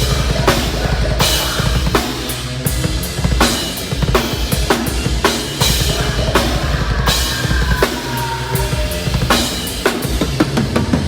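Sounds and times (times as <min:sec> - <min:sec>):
fast bass drum hits: 0:00.0 - 0:10.8
live metal band playing: 0:00.0 - 0:11.0.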